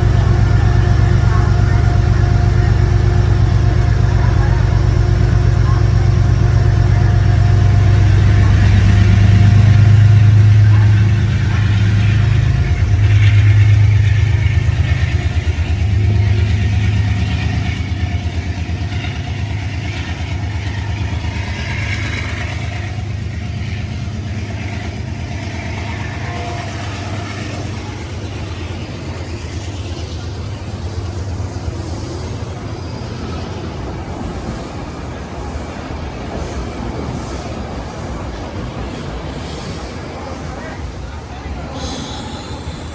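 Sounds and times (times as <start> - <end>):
train engine drone: 0.0 - 42.9.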